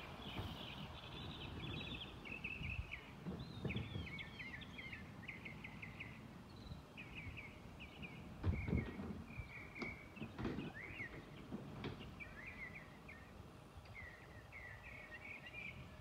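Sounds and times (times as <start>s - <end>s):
low outdoor rumble: 0.0s - 16.0s
songbird singing: 0.0s - 16.0s.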